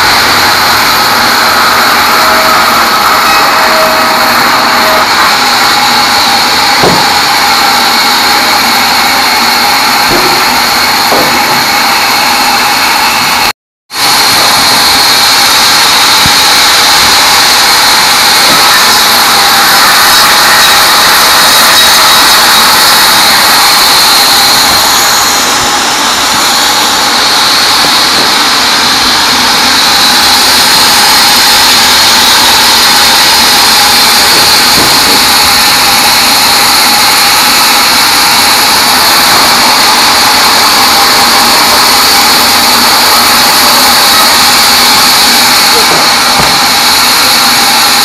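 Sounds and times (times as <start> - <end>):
bandsaw cutting log: 0.0 - 13.1, 14.0 - 48.0
high steady tone: 0.0 - 48.0.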